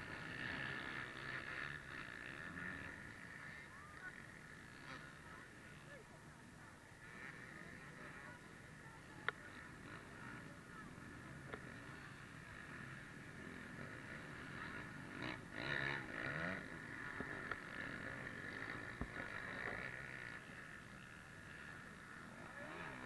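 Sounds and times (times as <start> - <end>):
distant dirt bike engines revving: 0.0 - 23.0.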